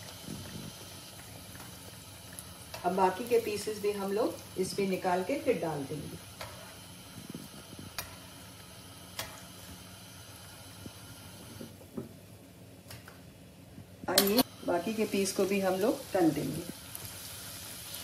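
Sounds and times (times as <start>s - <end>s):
bread sizzling in hot oil: 0.0s - 11.6s, 14.5s - 18.0s.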